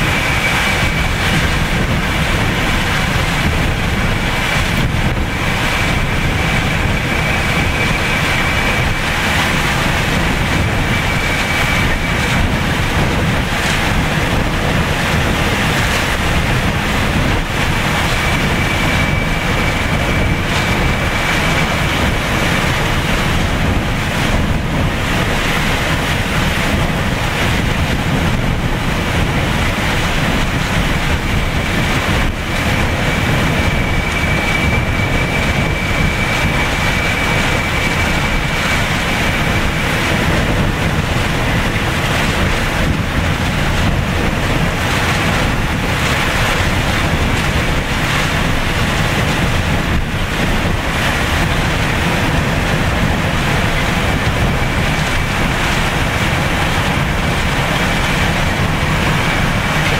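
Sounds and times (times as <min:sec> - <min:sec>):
hurricane winds blowing: 0:00.0 - 0:59.9
rain: 0:00.0 - 0:59.9
wind buffeting microphone: 0:00.0 - 0:59.9.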